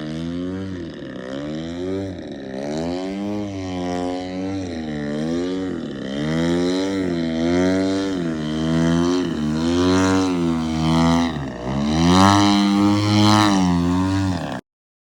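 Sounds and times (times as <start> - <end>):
model plane engine: 0.0 - 14.6.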